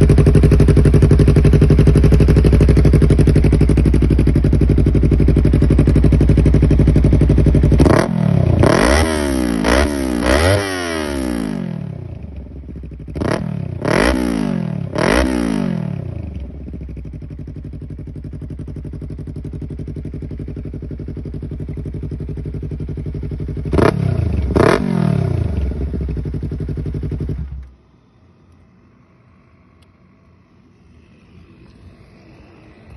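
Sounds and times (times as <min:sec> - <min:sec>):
motorcycle engine revving: 0:00.0 - 0:27.7
motorcycle idling: 0:00.0 - 0:27.8.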